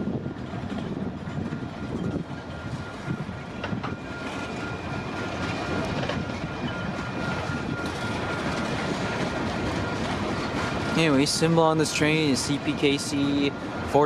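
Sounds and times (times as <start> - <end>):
train cars rumbling: 0.0 - 14.0.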